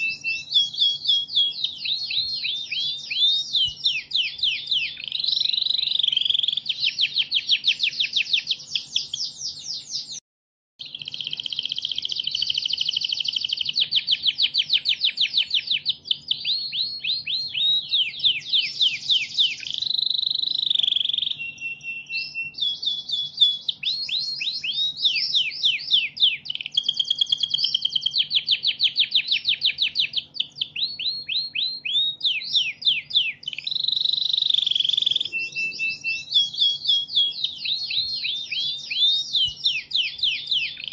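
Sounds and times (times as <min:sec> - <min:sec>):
recorded songbird song: 0:00.0 - 0:10.2, 0:10.8 - 0:40.9.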